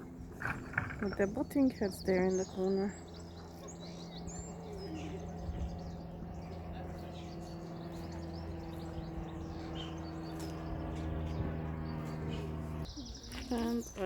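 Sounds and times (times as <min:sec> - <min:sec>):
steady low hum: 0:00.0 - 0:12.9
small birds chirping: 0:00.0 - 0:14.0.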